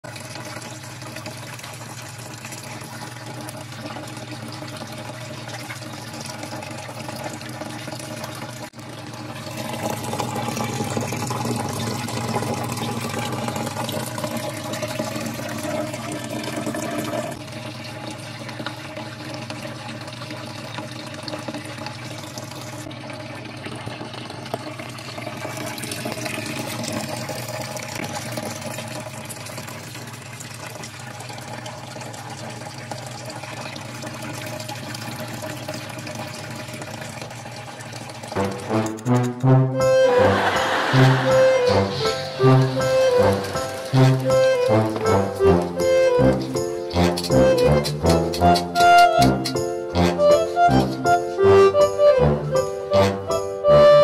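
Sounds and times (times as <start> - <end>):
water running: 0.0 - 54.0.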